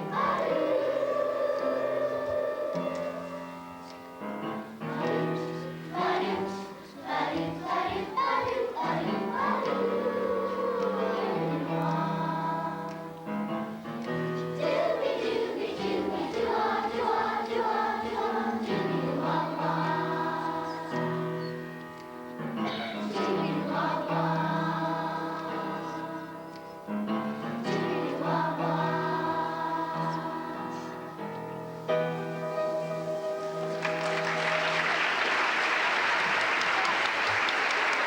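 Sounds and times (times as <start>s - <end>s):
children's choir singing: 0.0s - 38.0s.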